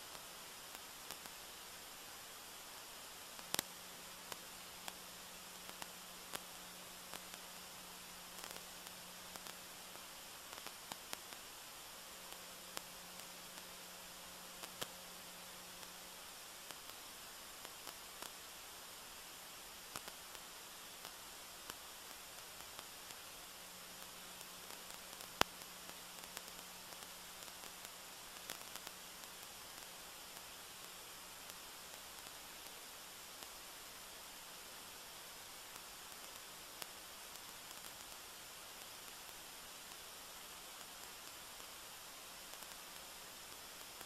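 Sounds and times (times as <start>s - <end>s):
electronic hiss with low hum: 0.0s - 44.0s
faint crackles: 0.0s - 44.0s
faint clicks: 0.1s - 1.4s, 3.4s - 11.6s, 12.2s - 15.0s, 16.6s - 18.4s, 19.8s - 32.8s, 33.4s - 44.0s.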